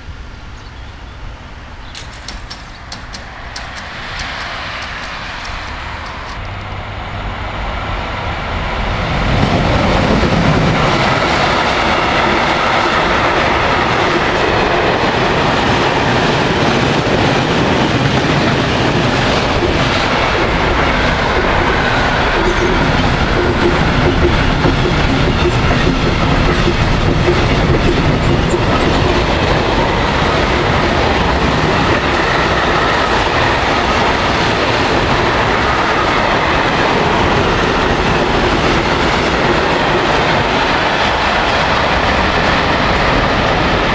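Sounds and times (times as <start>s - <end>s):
train passing close: 0.0s - 43.9s.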